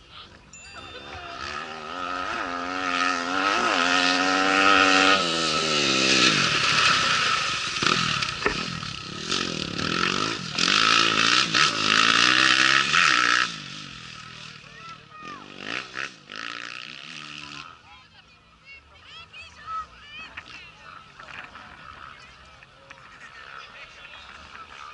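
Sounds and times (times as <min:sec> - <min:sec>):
motorcycle engine revving: 0:00.6 - 0:18.0, 0:20.3 - 0:24.9.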